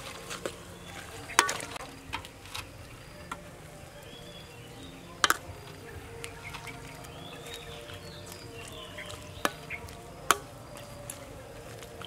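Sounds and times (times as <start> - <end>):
metal ladle stirring in pot: 0.0 - 3.8, 4.4 - 12.0.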